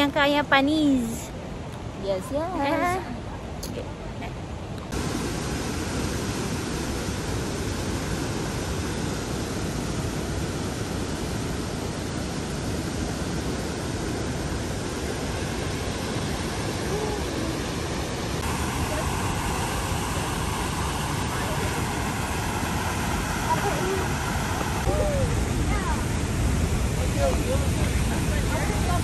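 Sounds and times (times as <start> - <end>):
whitewater rushing: 4.9 - 29.0.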